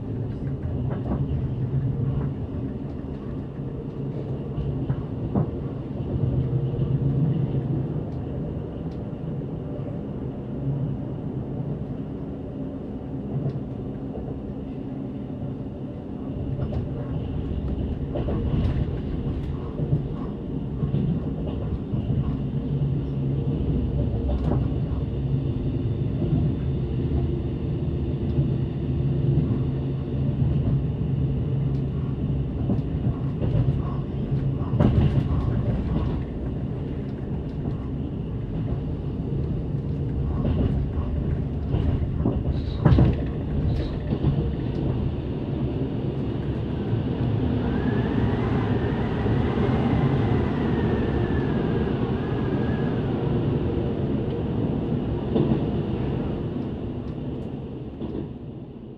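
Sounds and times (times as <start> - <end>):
train running rumble: 0.0 - 58.9.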